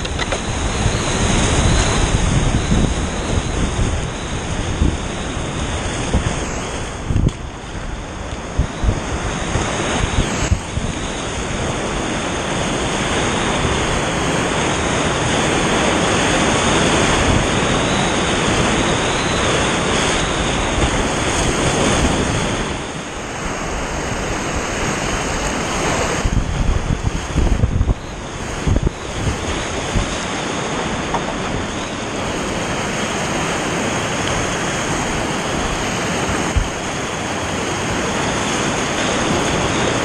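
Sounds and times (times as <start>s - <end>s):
whitewater rapids rushing: 0.0s - 40.0s.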